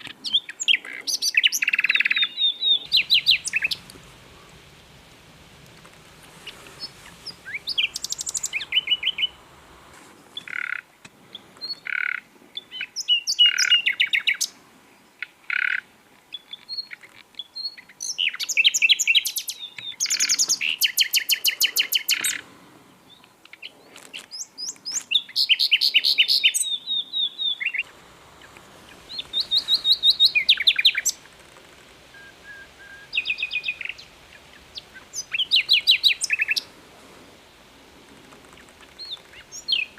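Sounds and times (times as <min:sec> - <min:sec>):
nightingale singing: 0:00.0 - 0:22.4, 0:23.1 - 0:36.8, 0:38.4 - 0:39.9.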